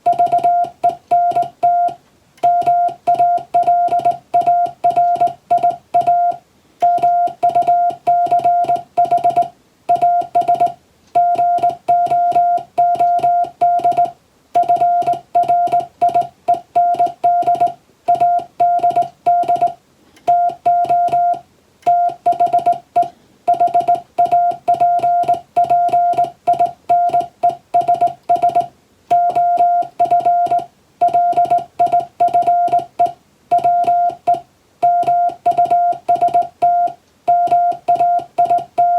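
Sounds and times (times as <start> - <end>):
morse code tone: 0.0 - 38.9.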